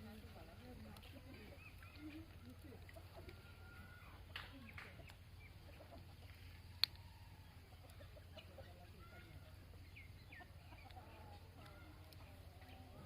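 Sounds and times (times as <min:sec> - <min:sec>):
faint bird calls: 0:00.9 - 0:13.0.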